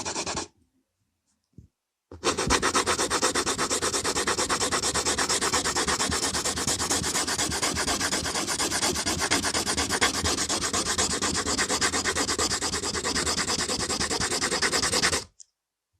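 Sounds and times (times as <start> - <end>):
pencil scribbling on paper: 0.0 - 0.5, 2.1 - 15.3.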